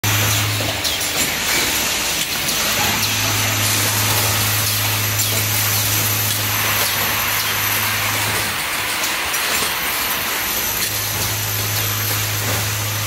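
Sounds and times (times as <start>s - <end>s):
machine running: 0.0s - 13.0s.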